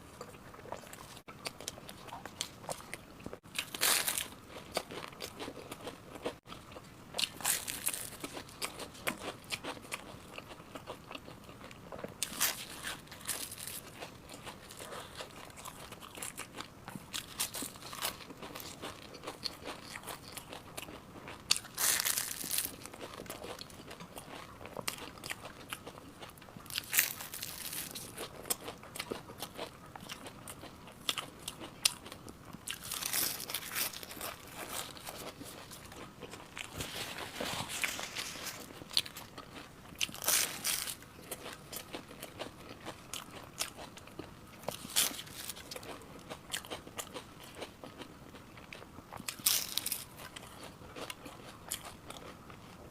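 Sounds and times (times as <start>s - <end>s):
crunchy food chewing: 0.1s - 52.9s.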